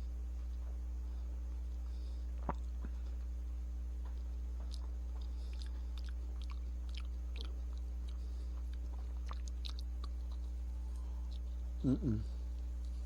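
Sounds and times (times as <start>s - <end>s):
low electrical hum: 0.0s - 13.0s
person chewing crunchy food: 0.0s - 13.0s.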